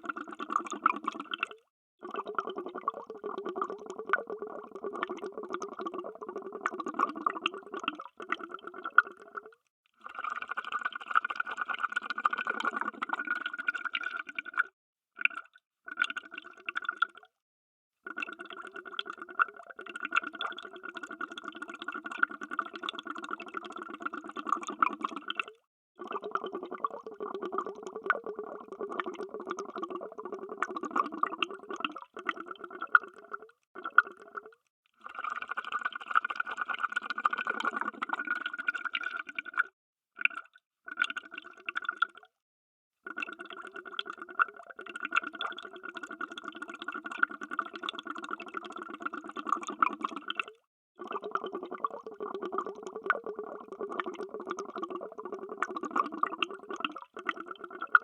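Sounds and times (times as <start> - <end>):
underwater bubbling: 0.0 - 9.6, 11.9 - 17.2, 18.1 - 42.2, 43.1 - 58.0.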